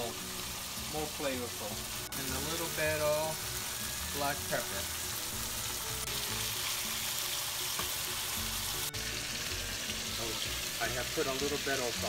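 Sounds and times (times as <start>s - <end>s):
steak sizzling in a hot pan: 0.0s - 12.0s
spatula turning meat: 0.4s - 11.7s.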